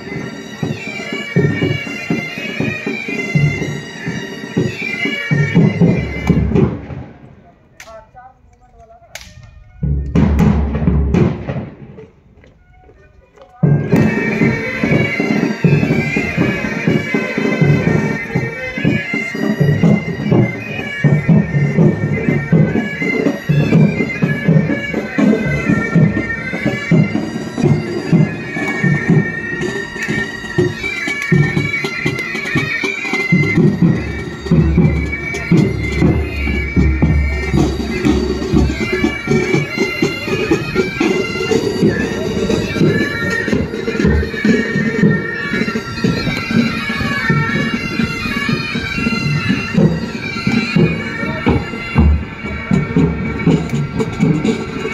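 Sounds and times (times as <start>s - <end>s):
side drums beating: 0.0s - 8.1s, 8.8s - 54.9s
bagpipes playing a march: 0.0s - 54.9s.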